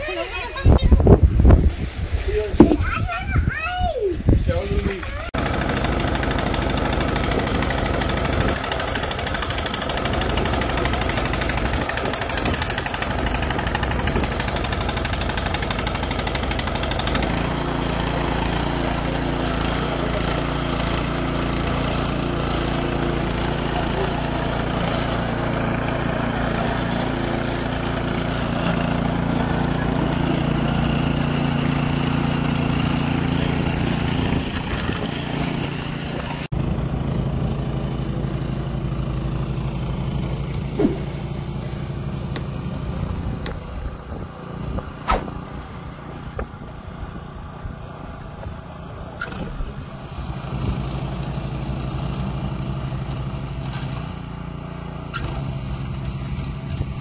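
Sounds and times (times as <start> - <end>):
snowblower engine running: 5.1 - 57.0.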